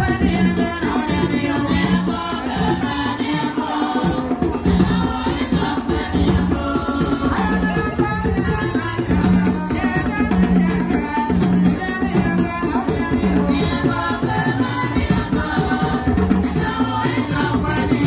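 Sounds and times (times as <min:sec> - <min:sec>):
music with singing voices: 0:00.0 - 0:18.0.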